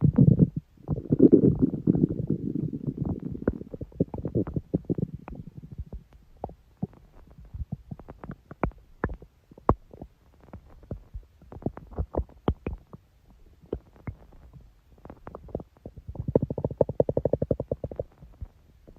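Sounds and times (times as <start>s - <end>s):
stomach rumbling and gurgling: 0.0s - 18.9s.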